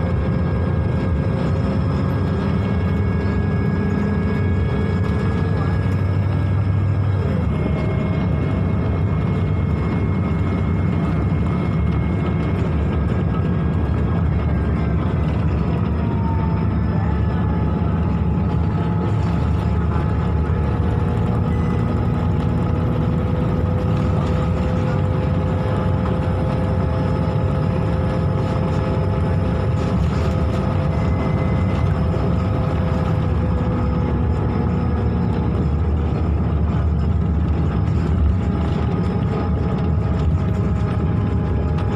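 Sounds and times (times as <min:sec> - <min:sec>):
bus diesel engine drone: 0:00.0 - 0:41.9
steady whining tones: 0:00.0 - 0:41.9.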